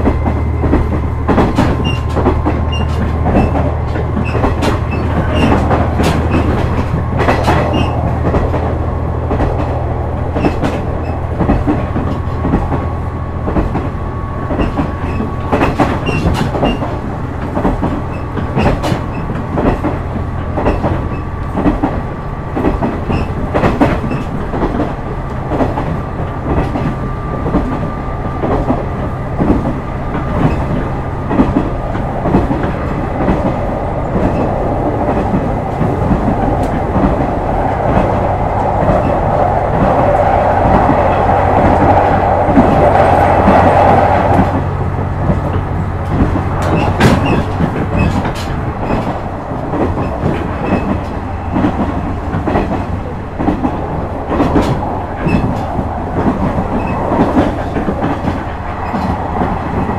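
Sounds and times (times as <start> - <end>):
wheels clicking over rail joints: 0.0 - 59.9.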